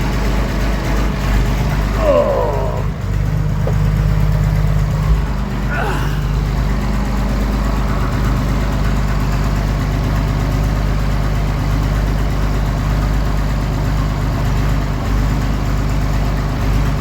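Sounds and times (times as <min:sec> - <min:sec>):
tractor engine idling: 0:02.9 - 0:17.0.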